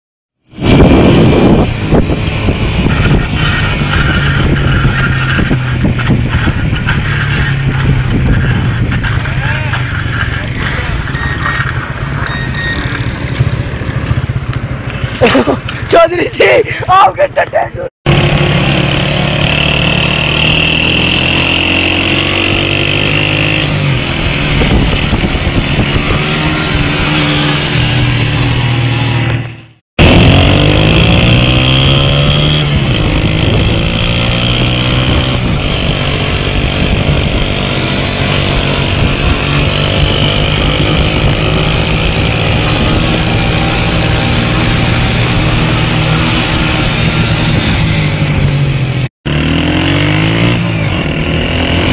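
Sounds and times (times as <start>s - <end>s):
motorcycle engine revving: 0.4s - 15.6s, 18.1s - 51.9s.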